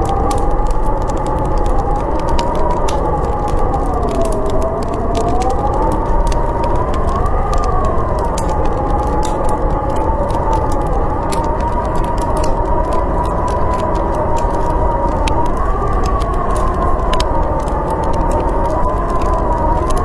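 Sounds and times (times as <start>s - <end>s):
storm wind howling: 0.0s - 20.0s
wood fire crackling: 0.0s - 20.0s.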